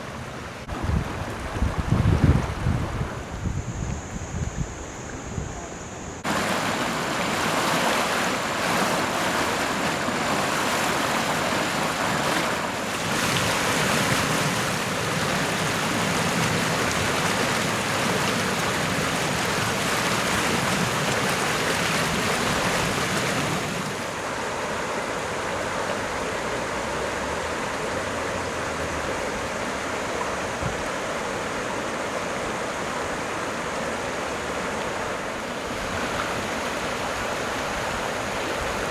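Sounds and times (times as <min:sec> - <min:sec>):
fast-running creek water rushing: 0:06.2 - 0:38.9.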